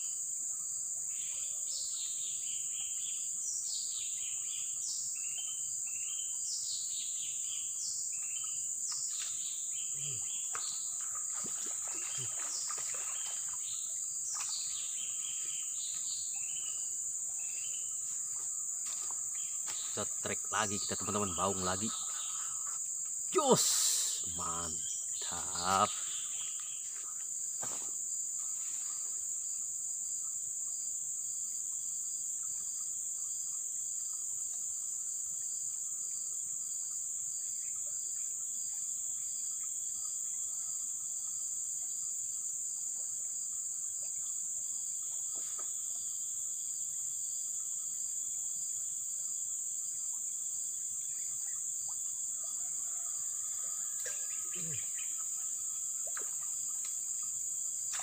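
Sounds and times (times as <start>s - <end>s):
faint pulsing insect call: 0.0s - 58.0s
insects chirring: 0.0s - 58.0s
rustle: 1.1s - 20.0s, 24.9s - 58.0s.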